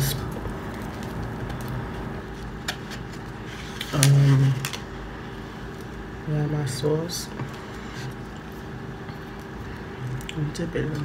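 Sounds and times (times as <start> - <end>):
chewing pizza: 0.0 - 6.2, 7.3 - 11.0.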